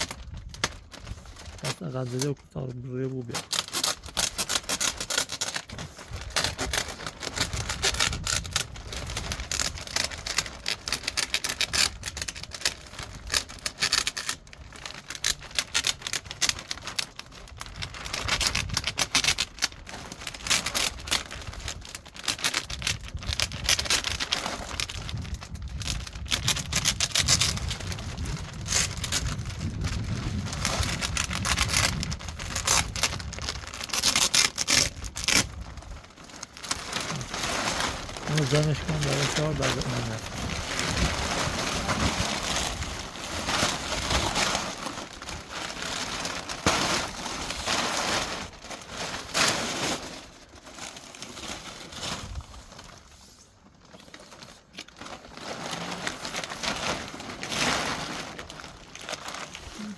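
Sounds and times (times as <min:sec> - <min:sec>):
plastic sheet crackling: 0:00.0 - 0:59.9.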